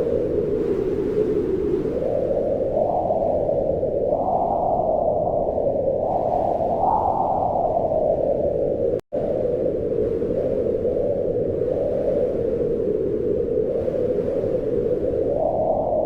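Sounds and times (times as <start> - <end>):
wind blowing in gusts: 0.0 - 16.0.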